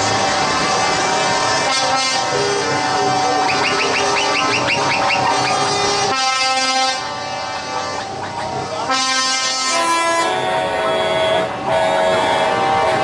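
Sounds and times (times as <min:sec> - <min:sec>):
truck air horns: 0:00.0 - 0:13.0.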